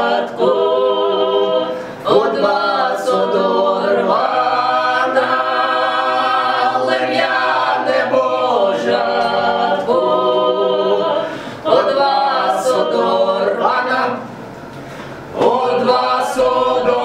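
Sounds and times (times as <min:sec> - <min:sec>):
group of voices singing a cappella: 0:00.0 - 0:17.0.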